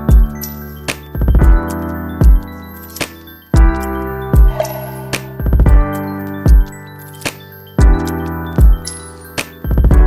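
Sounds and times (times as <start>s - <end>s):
background music with bass thumps: 0.0s - 6.8s, 7.8s - 8.9s, 9.6s - 10.0s.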